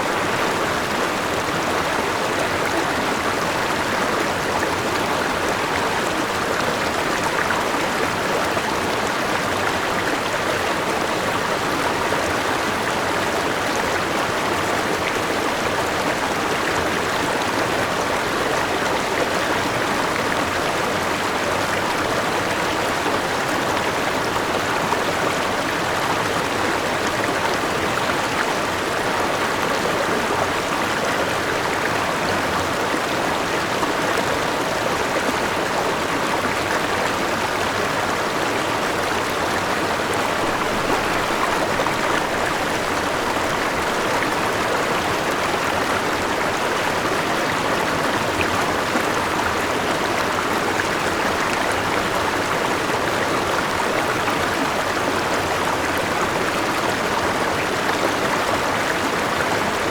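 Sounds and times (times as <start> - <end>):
river rushing over rocks: 0.0 - 59.9
small waterfall: 0.0 - 59.9.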